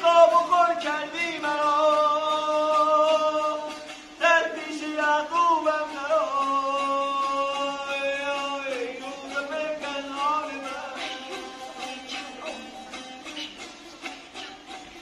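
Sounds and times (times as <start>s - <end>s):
man singing long held notes: 0.0s - 13.1s
plucked lute: 0.0s - 15.0s.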